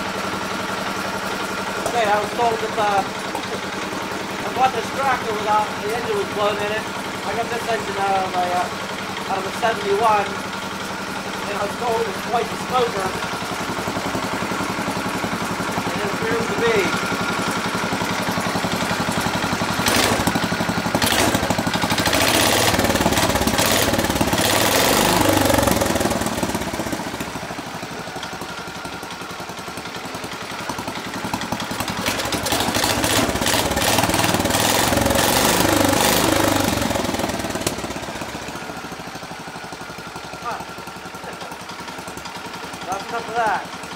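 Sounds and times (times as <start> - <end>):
single-cylinder tractor engine: 0.0 - 43.9.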